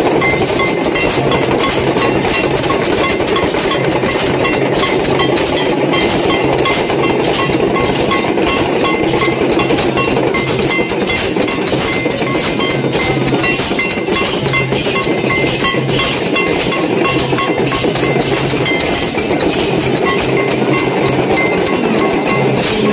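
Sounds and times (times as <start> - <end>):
hand bell rung rapidly: 0.0 - 22.9.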